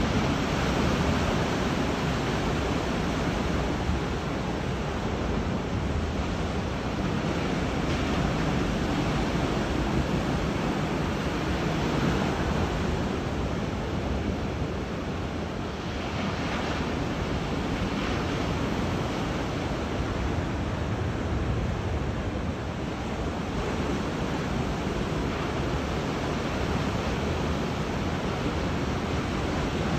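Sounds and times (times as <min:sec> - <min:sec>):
sea waves washing onto beach: 0:00.0 - 0:29.9.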